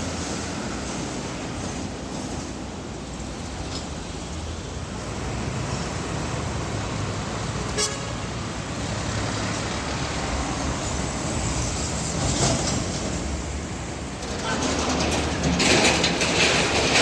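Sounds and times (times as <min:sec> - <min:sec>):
diesel trucks passing: 0:00.0 - 0:17.0
heavy road traffic: 0:00.0 - 0:17.0.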